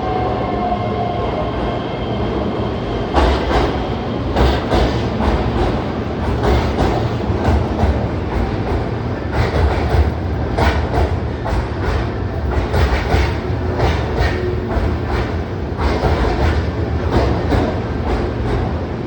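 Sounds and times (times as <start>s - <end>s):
electric train running on track: 0.0s - 19.0s.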